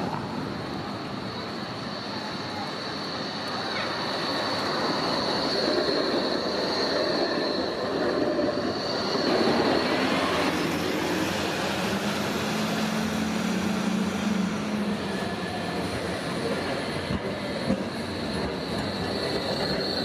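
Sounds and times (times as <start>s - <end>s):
tram low steady hum: 0.0s - 20.0s
tram rolling on street track: 0.0s - 20.0s.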